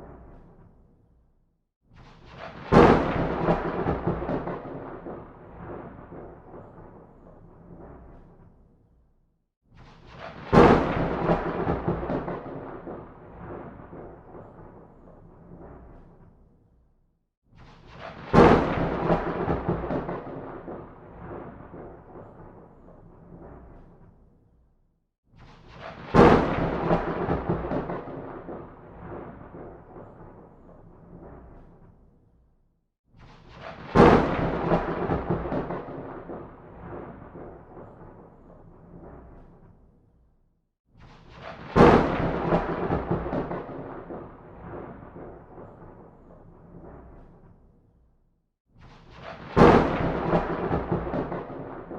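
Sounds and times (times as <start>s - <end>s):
thunderclap: 1.9s - 8.7s, 9.8s - 16.5s, 17.6s - 24.3s, 25.4s - 32.0s, 33.2s - 39.9s, 41.0s - 47.6s, 48.8s - 51.9s.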